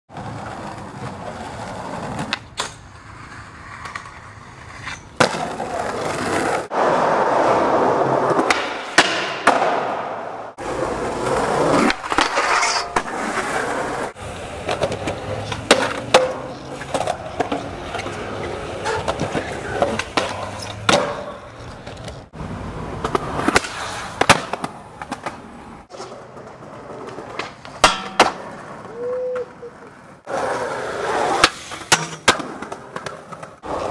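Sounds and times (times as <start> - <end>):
skateboard clacks: 0.1 - 13.5, 14.6 - 22.3, 23.0 - 29.6, 31.0 - 33.9
skateboard wheels rolling on concrete: 0.1 - 33.9.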